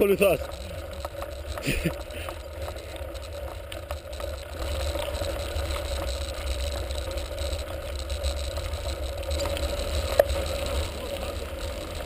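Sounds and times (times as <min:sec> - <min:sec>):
bike hum: 0:00.0 - 0:12.0
bike rattles and clicks: 0:00.0 - 0:12.0.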